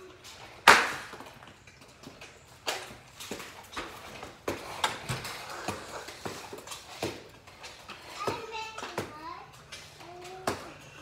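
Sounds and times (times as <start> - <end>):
plastic toys knocking on concrete: 0.6 - 1.5, 2.7 - 11.0.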